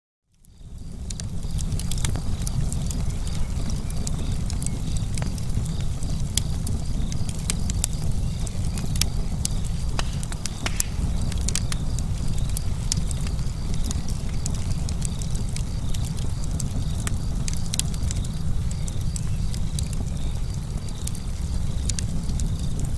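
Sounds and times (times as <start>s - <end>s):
low rumble of fire: 0.3s - 22.9s
wood fire crackling and popping: 0.3s - 22.9s.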